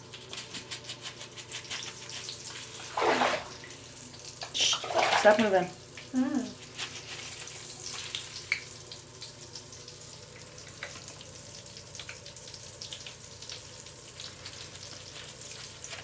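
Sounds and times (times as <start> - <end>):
crackles popping in bath water: 0.0 - 16.0.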